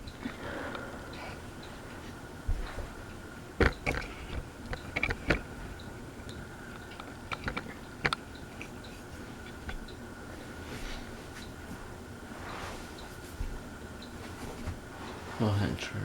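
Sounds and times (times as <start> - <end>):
ceiling fan whine: 0.0 - 16.0.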